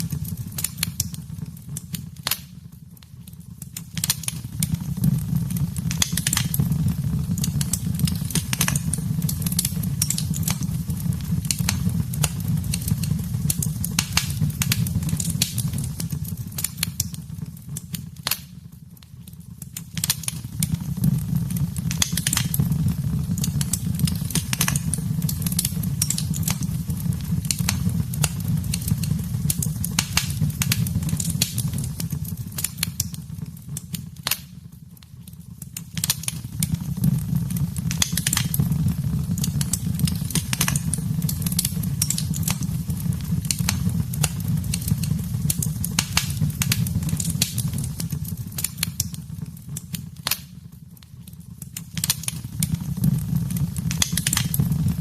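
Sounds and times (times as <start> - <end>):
fire flames rumbling: 0.0 - 55.0
wood fire crackling: 0.0 - 55.0.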